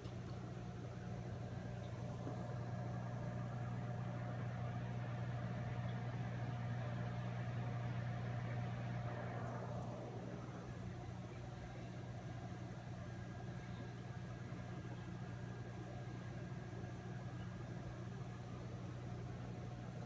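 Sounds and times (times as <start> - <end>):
aquarium equipment humming: 0.0 - 20.0.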